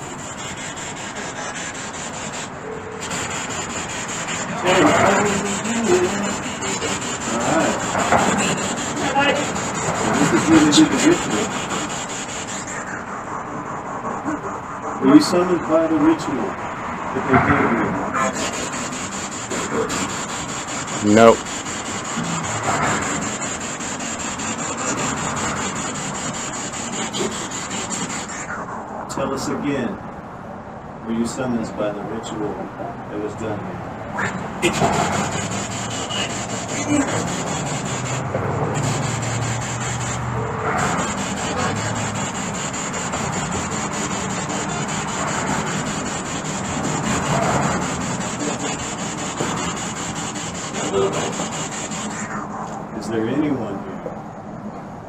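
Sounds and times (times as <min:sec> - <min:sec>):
garbled radio fragments: 0:00.0 - 0:15.5, 0:18.1 - 0:29.2, 0:34.2 - 0:53.0
chopped static hiss: 0:00.0 - 0:32.8, 0:33.8 - 0:55.0.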